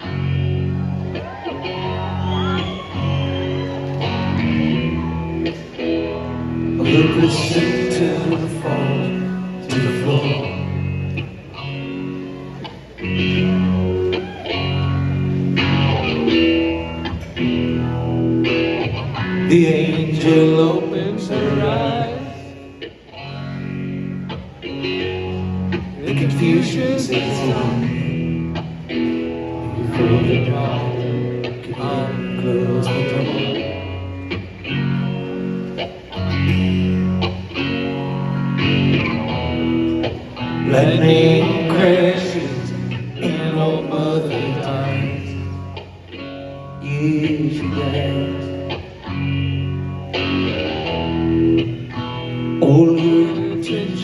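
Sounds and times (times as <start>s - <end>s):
electric guitar chords: 0.0s - 54.0s
live rock band playing: 0.0s - 54.0s.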